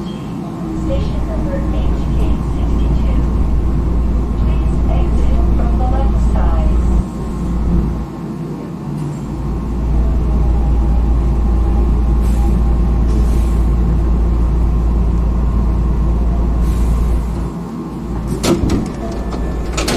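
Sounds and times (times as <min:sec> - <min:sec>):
electric train rumbling: 0:00.0 - 0:19.9.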